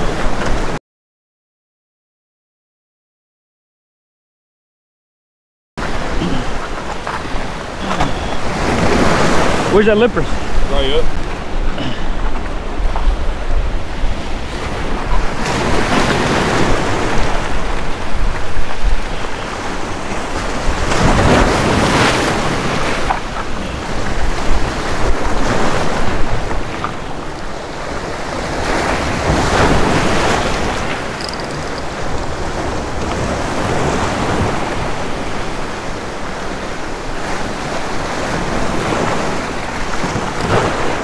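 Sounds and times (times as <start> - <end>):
surf washing against rocks: 0.0 - 0.8, 5.8 - 41.0
wind buffeting microphone: 5.9 - 41.0.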